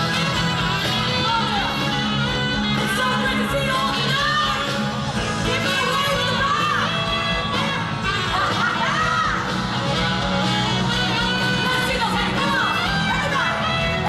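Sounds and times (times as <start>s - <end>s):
live pop-rock band playing: 0.0s - 14.0s
woman singing lead vocal: 0.0s - 14.0s.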